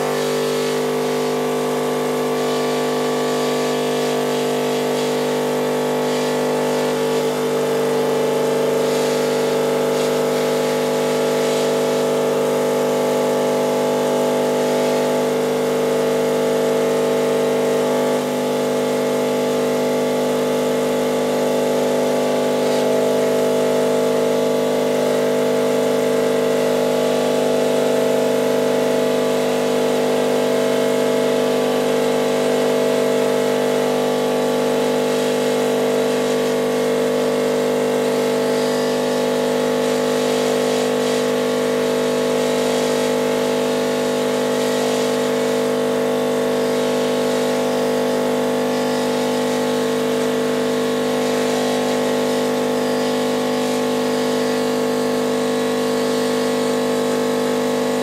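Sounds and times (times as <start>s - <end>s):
espresso machine pump buzzing: 0.0s - 58.0s.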